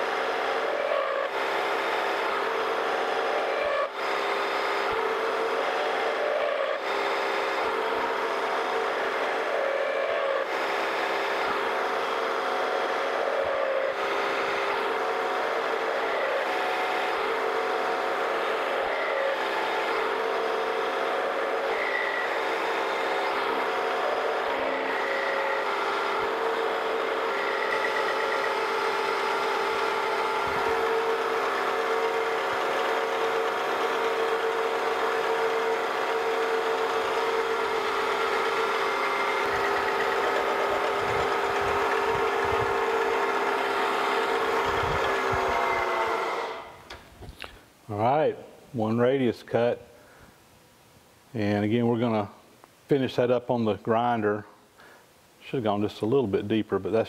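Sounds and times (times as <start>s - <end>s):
milling machine whine: 0.0s - 47.5s.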